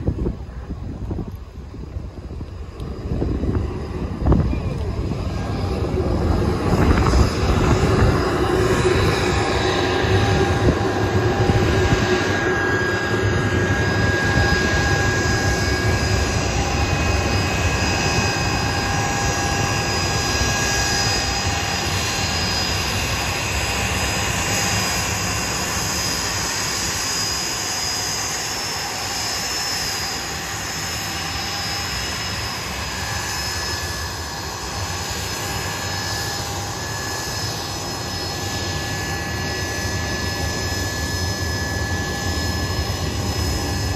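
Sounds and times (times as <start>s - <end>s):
high jet whine: 0.0s - 43.9s
jet engine rumble: 0.0s - 43.9s.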